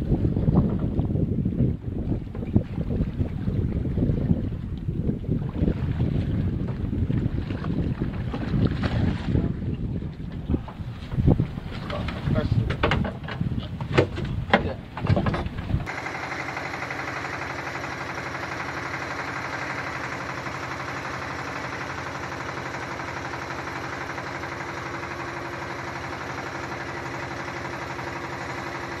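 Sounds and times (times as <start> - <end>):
steady engine hum: 0.0 - 29.0.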